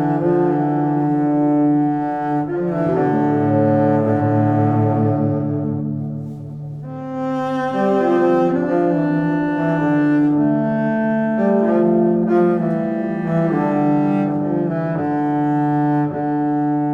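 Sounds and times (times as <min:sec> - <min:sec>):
slow low held music notes: 0:00.0 - 0:16.9.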